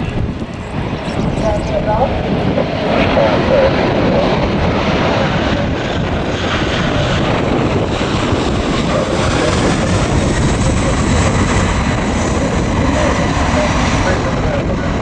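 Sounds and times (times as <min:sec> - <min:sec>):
airplane engine rumble: 0:00.0 - 0:15.0.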